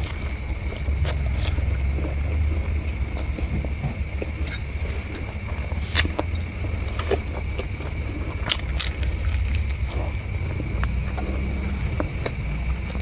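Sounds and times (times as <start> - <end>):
close chewing of food: 0.0 - 13.0
low steady rumble: 0.0 - 13.0.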